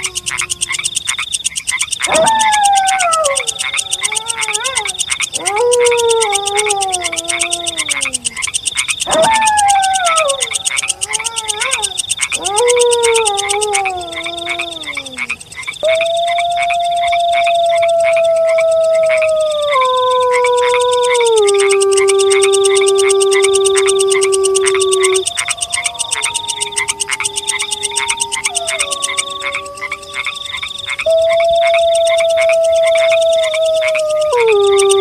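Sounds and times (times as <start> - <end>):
wolves howling: 0.0 - 1.2, 2.0 - 35.0
frogs croaking: 0.0 - 35.0.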